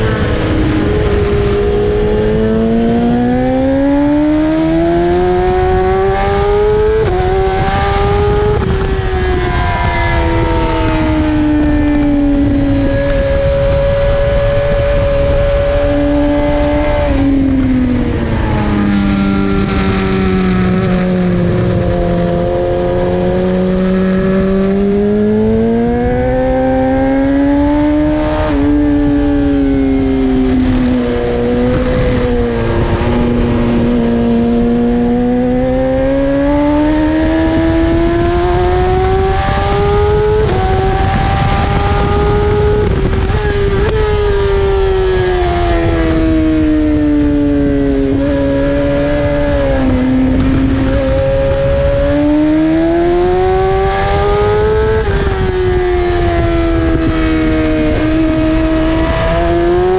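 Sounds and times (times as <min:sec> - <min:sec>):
motorcycle engine revving: 0:00.0 - 0:59.9
wind rushing: 0:00.0 - 0:59.9.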